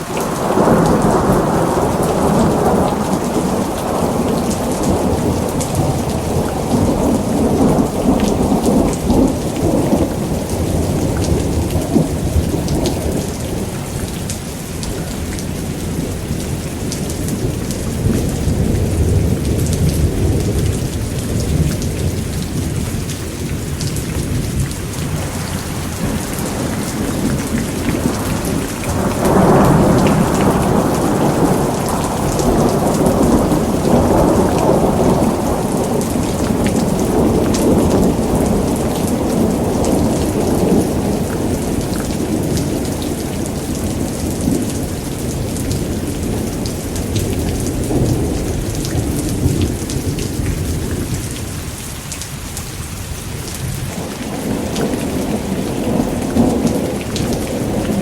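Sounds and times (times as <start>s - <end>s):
rolling thunder: 0.0s - 14.2s, 14.8s - 51.7s
heavy rain: 0.0s - 58.0s.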